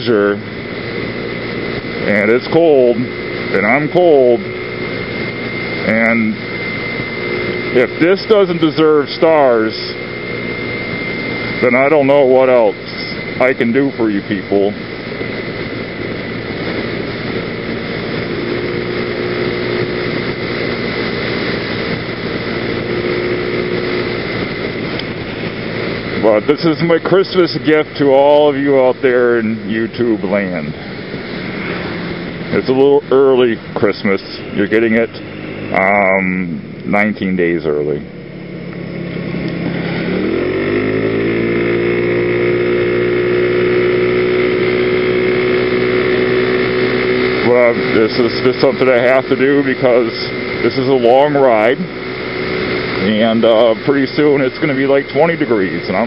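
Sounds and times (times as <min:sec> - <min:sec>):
scooter engine running: 0:00.0 - 0:56.0
wind and road noise: 0:00.0 - 0:56.0.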